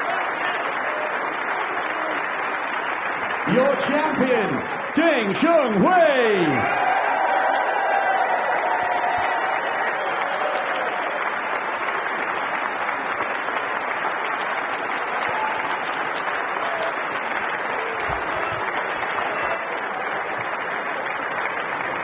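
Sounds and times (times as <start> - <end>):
crowd applauding: 0.0 - 22.0.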